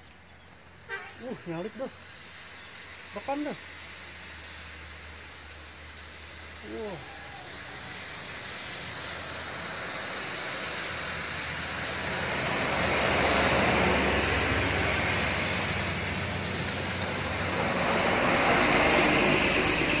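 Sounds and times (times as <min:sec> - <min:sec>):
tyres hissing on wet road: 0:00.0 - 0:20.0
low engine hum: 0:01.7 - 0:20.0.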